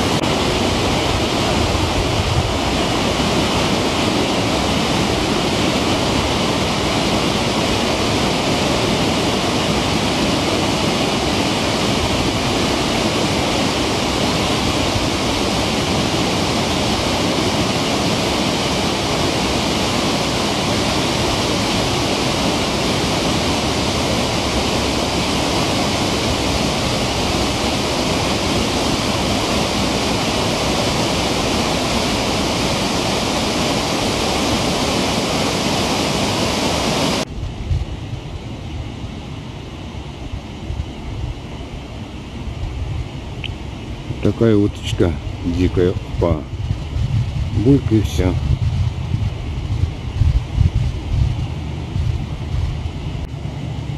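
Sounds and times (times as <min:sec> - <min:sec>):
water rushing over spillway: 0:00.0 - 0:53.9.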